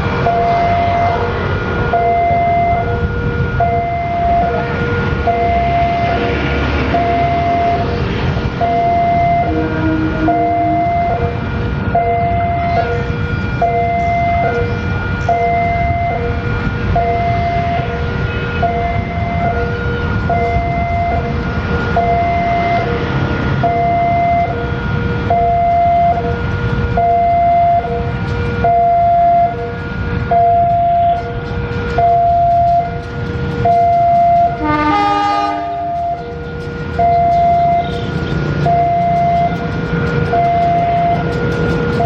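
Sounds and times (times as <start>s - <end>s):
steady low rumble: 0.0s - 34.6s
level crossing two-tone alarm: 0.1s - 42.0s.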